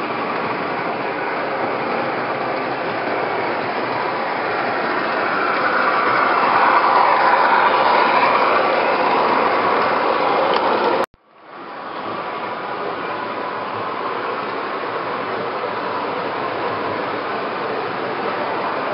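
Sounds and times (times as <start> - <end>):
model train rolling whir: 0.0 - 18.9.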